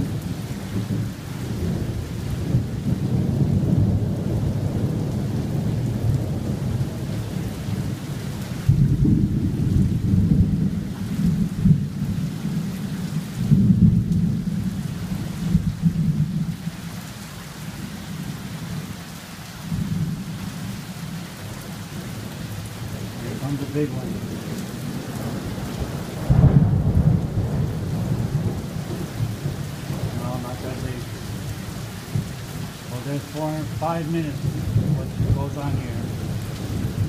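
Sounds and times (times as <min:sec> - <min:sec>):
rolling thunder: 0:00.0 - 0:16.6, 0:22.0 - 0:37.0
rain hissing: 0:00.0 - 0:37.0.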